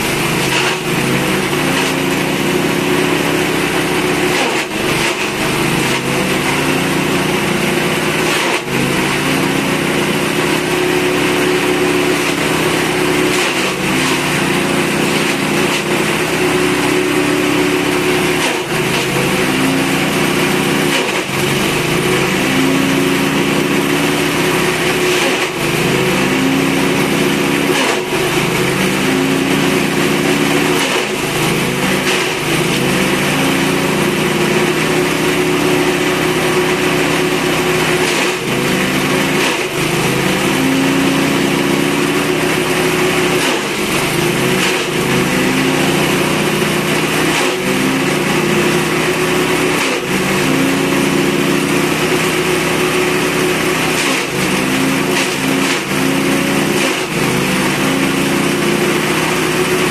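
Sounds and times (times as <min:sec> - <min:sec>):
grass chopper cutting stalks: 0:00.0 - 0:59.9
small engine running: 0:00.0 - 0:59.9.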